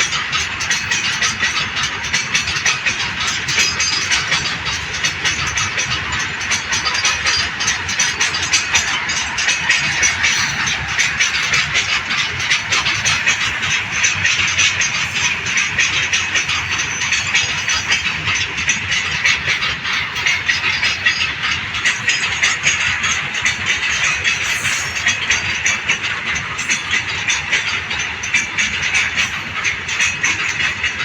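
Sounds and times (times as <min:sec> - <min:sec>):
train wheels clicking over rail joints: 0:00.0 - 0:31.0.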